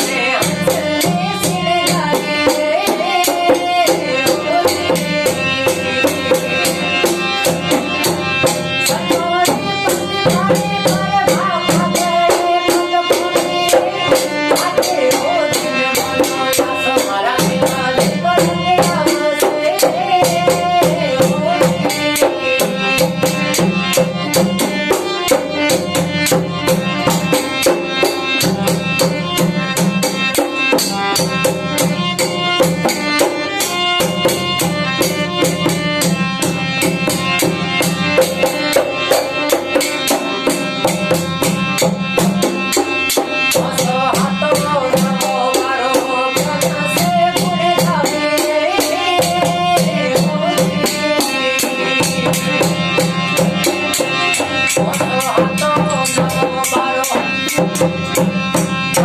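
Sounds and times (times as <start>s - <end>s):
hand drum beating fast: 0.0s - 59.0s
held melody: 0.0s - 59.0s
jingling hand percussion: 0.0s - 59.0s.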